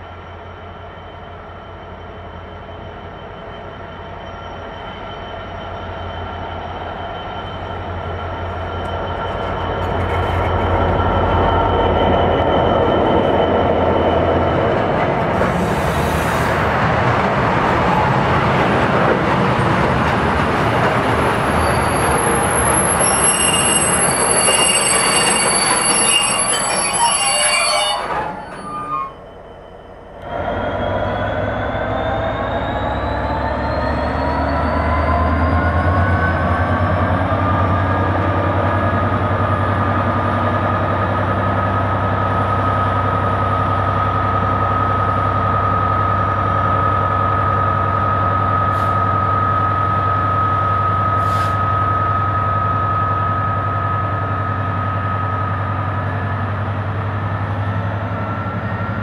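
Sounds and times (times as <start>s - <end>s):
diesel locomotive engine rumbling: 0.0s - 59.0s.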